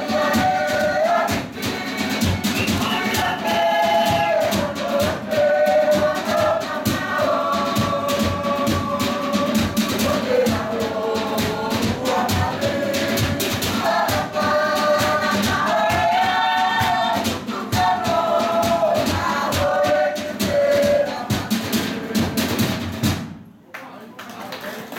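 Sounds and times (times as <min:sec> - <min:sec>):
group singing in unison: 0:00.0 - 0:23.0
rapid percussion beats: 0:00.0 - 0:23.7.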